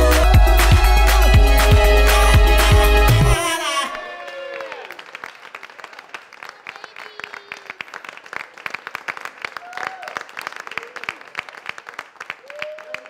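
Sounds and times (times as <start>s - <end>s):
group clapping hands: 0.0s - 3.4s, 4.0s - 13.0s.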